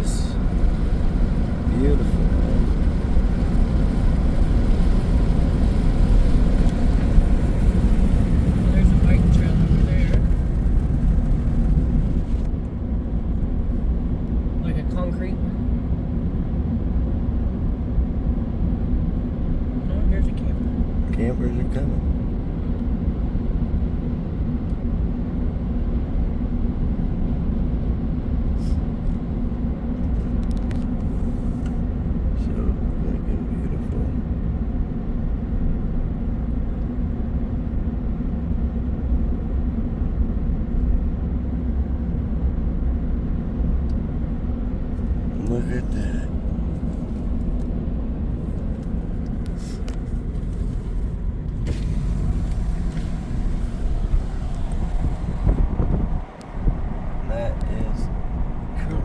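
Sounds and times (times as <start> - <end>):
road and engine noise: 0.0 - 59.0.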